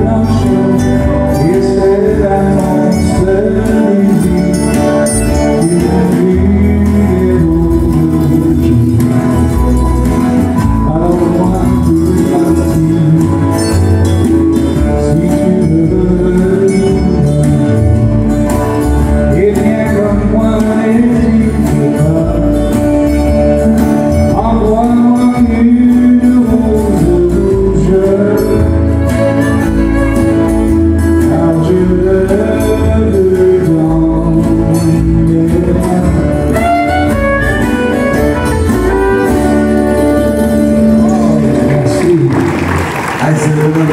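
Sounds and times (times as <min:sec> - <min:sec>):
man singing into a microphone: 0:00.0 - 0:42.4
acoustic guitars strummed: 0:00.0 - 0:43.9.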